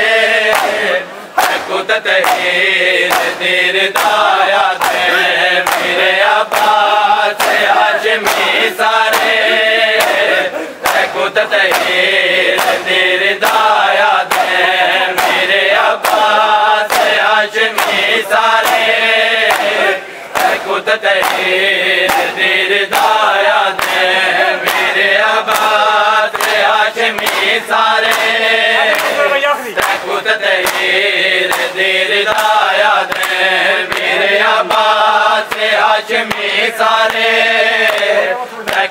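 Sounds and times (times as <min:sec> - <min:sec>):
men chanting in unison: 0:00.0 - 0:38.9
hands slapping bare chests: 0:00.5 - 0:38.9.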